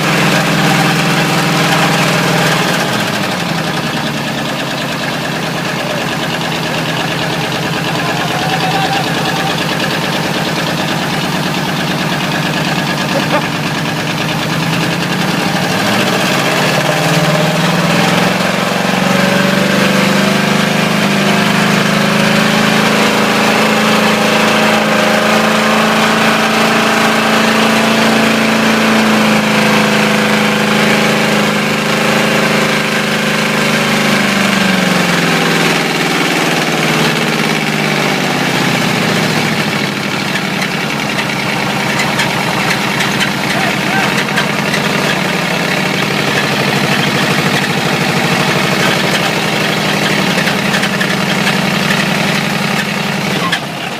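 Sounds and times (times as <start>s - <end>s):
engine revving: 0.0s - 53.9s.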